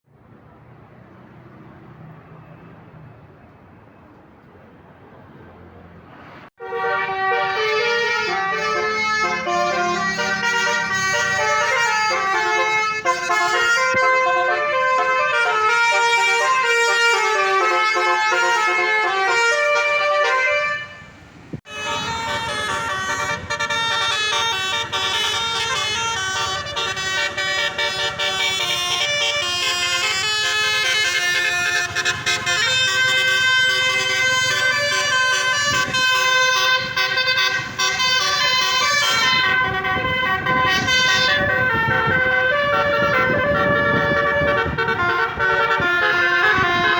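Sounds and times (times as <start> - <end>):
bus horn playing a melody: 6.6 - 46.9.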